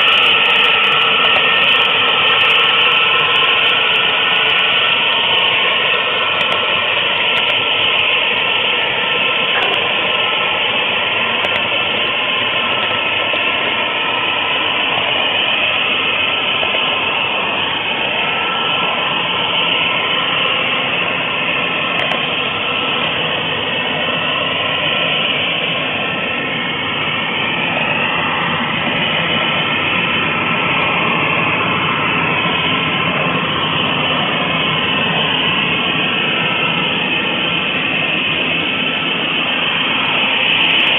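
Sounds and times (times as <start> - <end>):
faint whines: 0.0 - 40.9
model train wheels rumbling on track: 0.0 - 40.9.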